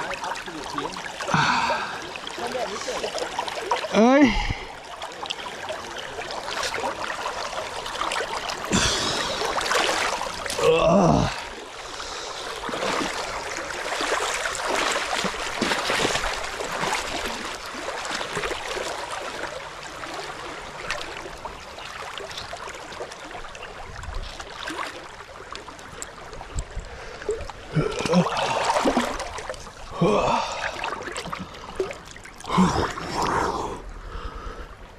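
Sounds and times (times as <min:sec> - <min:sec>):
stream water rushing: 0:00.0 - 0:33.8.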